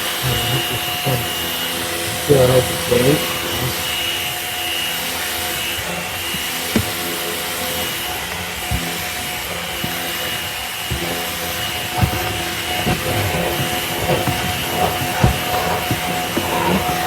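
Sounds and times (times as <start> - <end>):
vacuum motor whine: 0.0 - 17.0.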